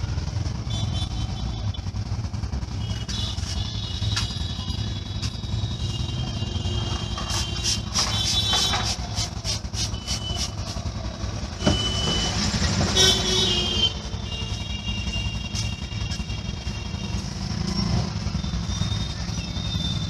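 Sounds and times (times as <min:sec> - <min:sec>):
steady traffic noise: 0:00.0 - 0:20.0.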